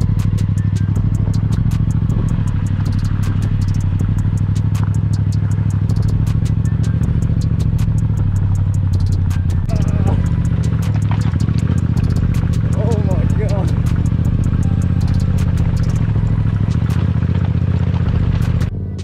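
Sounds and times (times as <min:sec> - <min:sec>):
stones clicking under tyres: 0:00.0 - 0:18.7
motorcycle engine running: 0:00.0 - 0:19.0.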